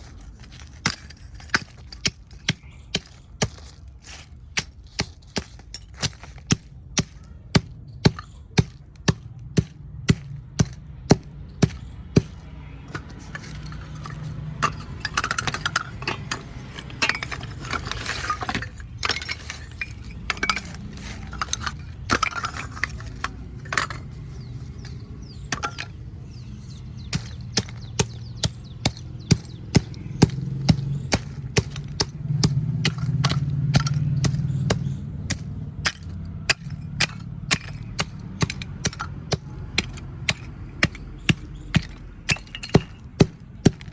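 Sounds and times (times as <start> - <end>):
clay cups cracking and crushing: 0.0 - 43.9.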